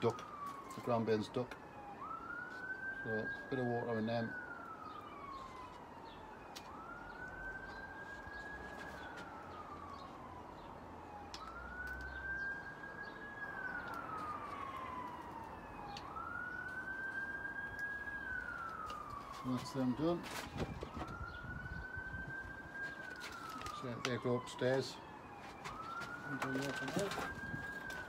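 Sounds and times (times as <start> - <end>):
siren wailing: 0.0 - 28.0.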